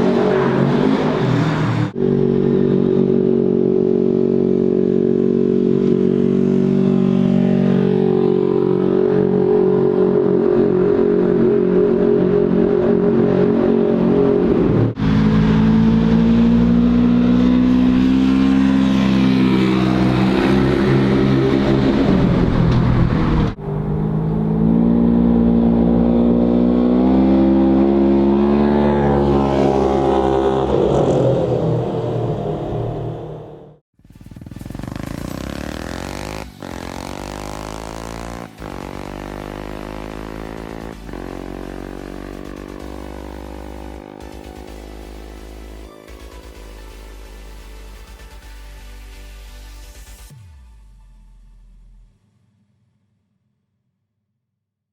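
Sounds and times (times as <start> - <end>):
utility vehicle engine revving: 0.0 - 47.7.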